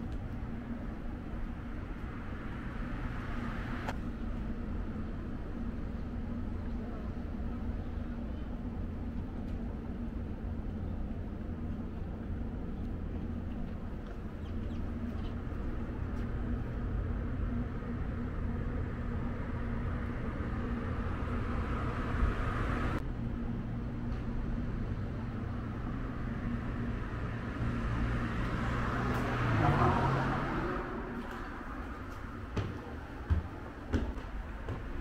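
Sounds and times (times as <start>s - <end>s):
constant hum: 0.0s - 35.0s
low mechanical rumble: 0.0s - 35.0s.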